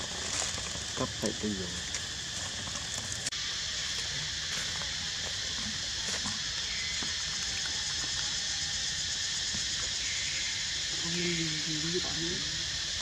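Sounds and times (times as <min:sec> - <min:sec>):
high-pitched outdoor hiss: 0:00.0 - 0:13.0.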